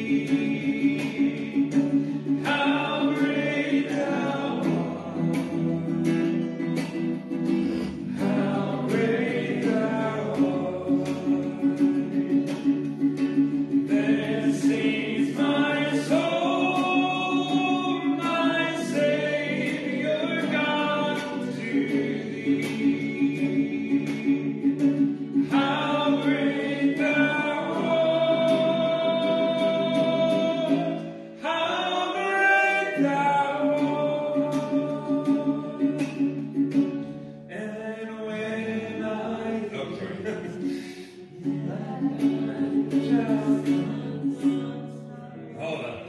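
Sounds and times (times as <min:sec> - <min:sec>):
voices singing a hymn: 0:00.0 - 0:06.6, 0:07.6 - 0:36.8, 0:37.5 - 0:46.0.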